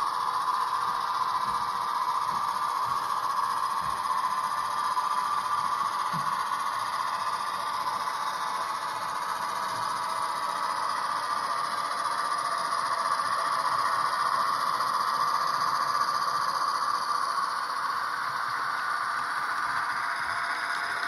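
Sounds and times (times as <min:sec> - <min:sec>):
model locomotive motor: 0:00.0 - 0:21.0
model train wheels rattling: 0:00.0 - 0:21.0.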